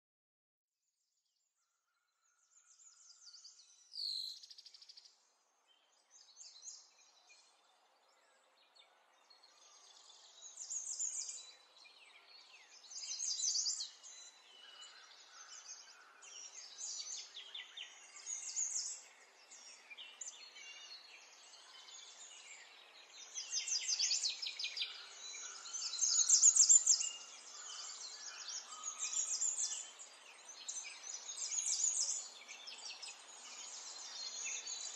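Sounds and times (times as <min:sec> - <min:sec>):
small birds chirping and trilling: 0:01.3 - 0:34.9.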